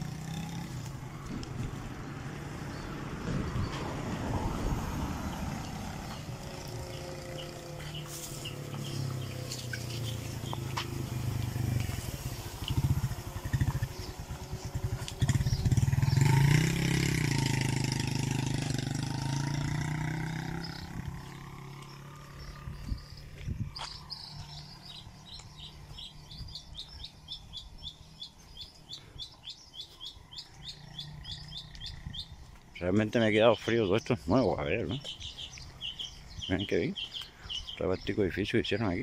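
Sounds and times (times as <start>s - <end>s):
vehicle engine passing by: 0.0s - 29.0s, 29.7s - 39.0s
bird chirping rapidly: 5.3s - 11.3s, 12.1s - 18.4s, 19.1s - 39.0s.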